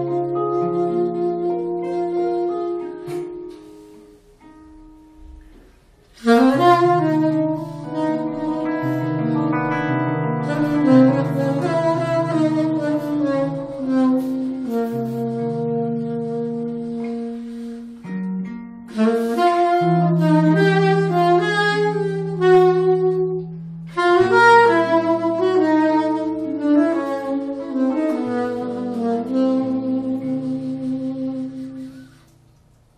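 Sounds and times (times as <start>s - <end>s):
electric guitar: 0.0s - 32.6s
soprano saxophone melody: 0.0s - 32.9s.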